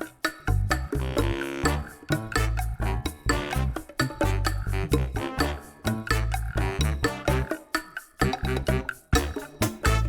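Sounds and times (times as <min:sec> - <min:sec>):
upbeat background music: 0:00.1 - 0:10.0.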